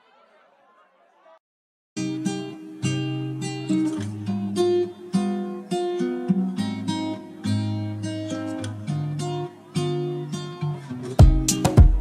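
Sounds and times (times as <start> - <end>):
acoustic guitar music: 2.0 - 12.0.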